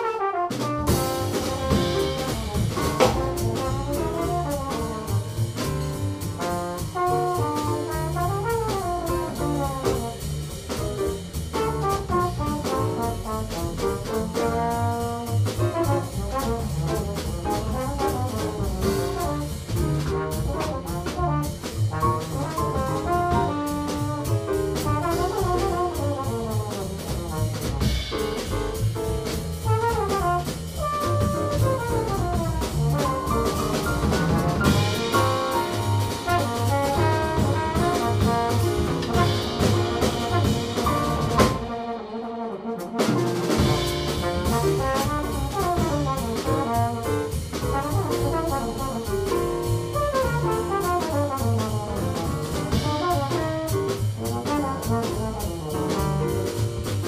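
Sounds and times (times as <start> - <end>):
trombone solo: 0.0 - 5.4, 6.6 - 10.2, 11.8 - 27.9, 29.6 - 56.6
double bass: 0.0 - 57.0
drum kit: 0.0 - 57.0
piano: 0.0 - 57.0.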